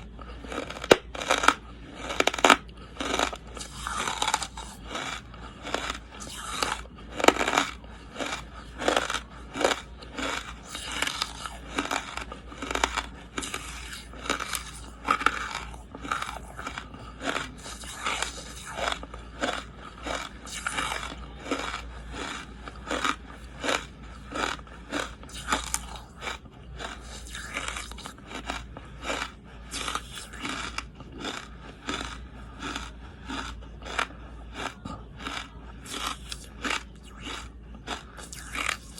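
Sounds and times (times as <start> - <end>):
crunchy biting and chewing: 0.0 - 38.9.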